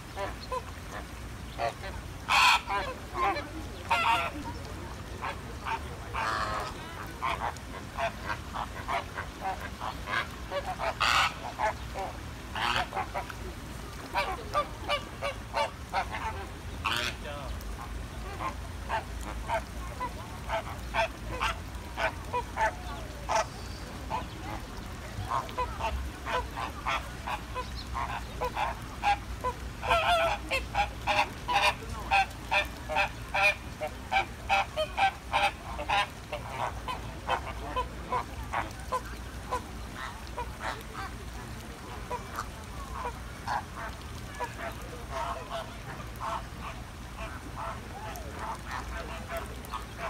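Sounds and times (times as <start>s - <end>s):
flamingos calling: 0.1s - 4.5s, 5.2s - 13.3s, 14.1s - 24.6s, 25.2s - 41.1s, 41.8s - 50.0s.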